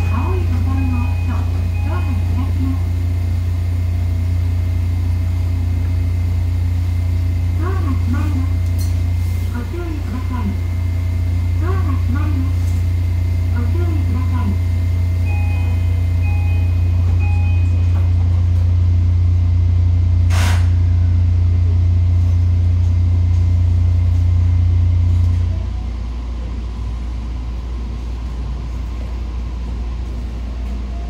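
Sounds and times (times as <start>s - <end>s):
electric train hum: 0.0s - 31.0s.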